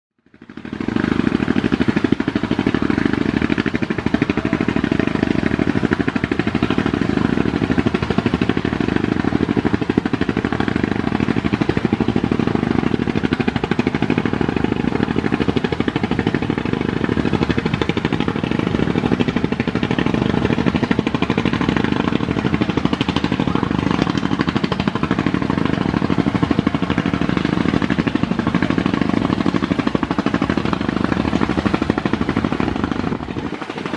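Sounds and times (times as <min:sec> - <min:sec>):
boat diesel engine chugging: 0:00.2 - 0:33.9.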